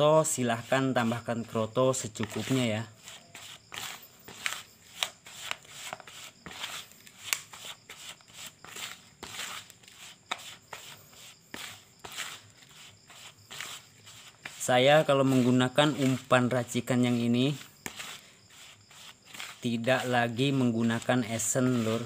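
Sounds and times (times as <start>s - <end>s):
spoon scraping plastic bowl: 0.0s - 22.0s.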